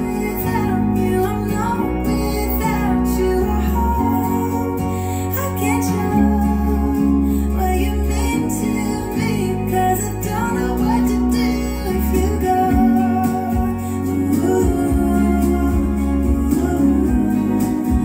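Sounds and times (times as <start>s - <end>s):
song with singing over guitar: 0.0s - 18.0s.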